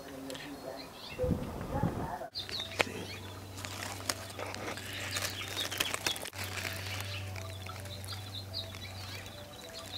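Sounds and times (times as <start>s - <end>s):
nestling birds chirping: 0.0s - 9.9s.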